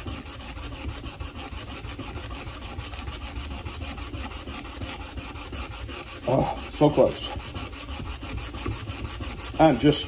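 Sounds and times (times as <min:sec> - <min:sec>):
sandpaper scraping steel blade: 0:00.0 - 0:10.0.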